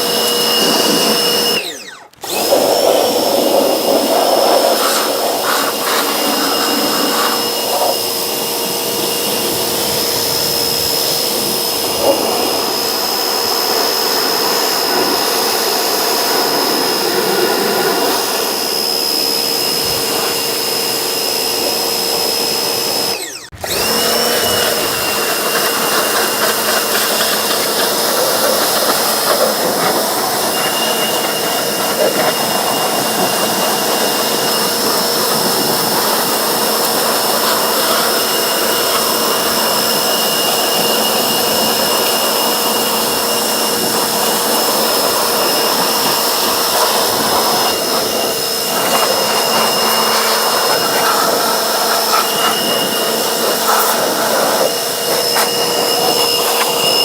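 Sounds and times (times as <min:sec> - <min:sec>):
motor whine: 0:00.0 - 0:57.0
pressure washer spray hiss: 0:02.3 - 0:23.0, 0:24.0 - 0:57.0.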